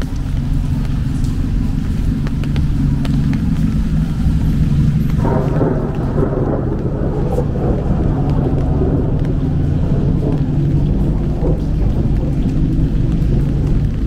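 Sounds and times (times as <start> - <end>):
raindrops tapping: 0.0 - 14.0
steady low rumble: 0.0 - 14.0.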